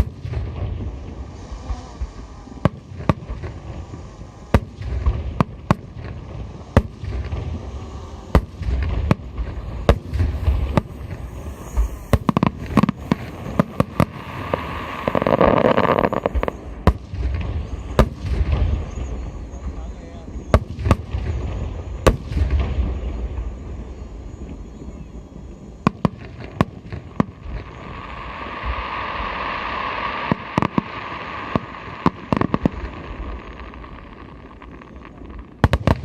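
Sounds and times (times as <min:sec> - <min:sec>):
firework shells bursting: 0:00.0 - 0:19.7, 0:25.8 - 0:36.0.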